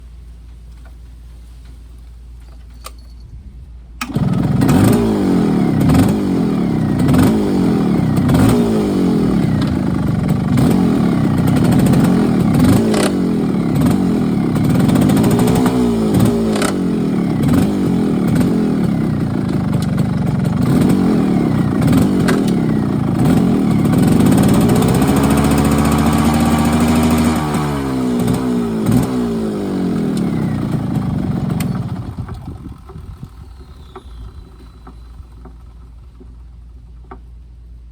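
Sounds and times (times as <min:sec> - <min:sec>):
vehicle engine revving: 0:04.0 - 0:37.3.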